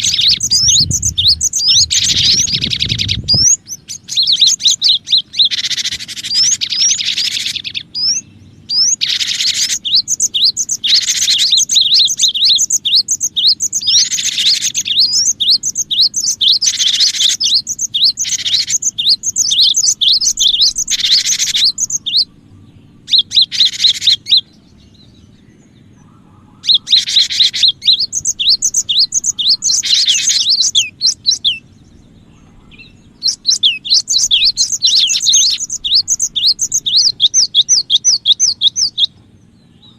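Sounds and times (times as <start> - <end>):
bird chirping and buzzing: 0.0 - 39.9.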